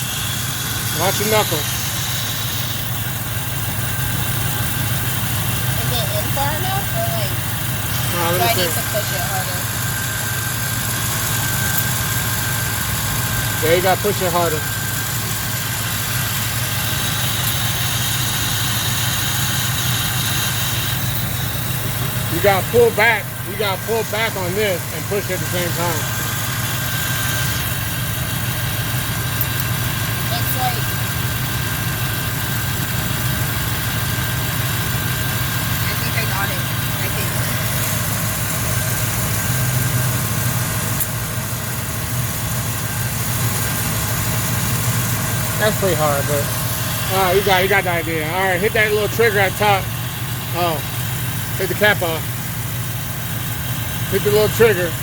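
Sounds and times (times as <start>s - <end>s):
air conditioning running: 0.0s - 55.0s
car engine idling: 0.0s - 55.0s.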